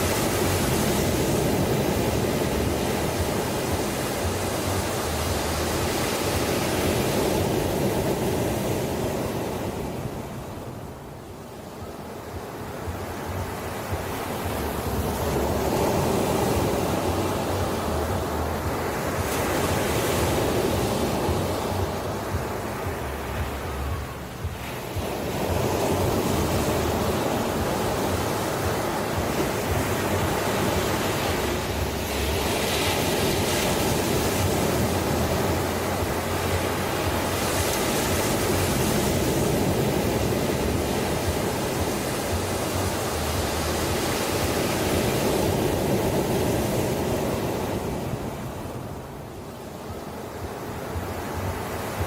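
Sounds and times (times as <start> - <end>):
ocean waves washing onto shore: 0.0 - 52.0.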